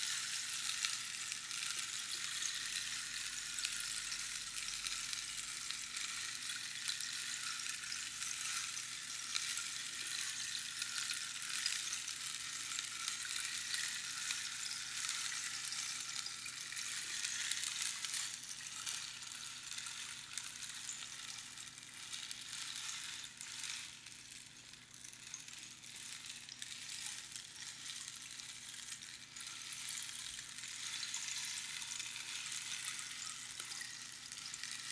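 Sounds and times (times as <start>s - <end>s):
rainstick pattering hiss: 0.0s - 34.9s.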